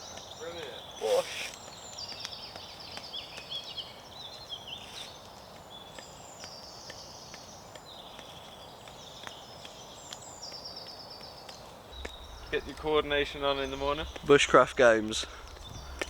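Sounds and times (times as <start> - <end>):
birds singing: 0.0 - 16.0
campfire crackling: 0.0 - 16.0.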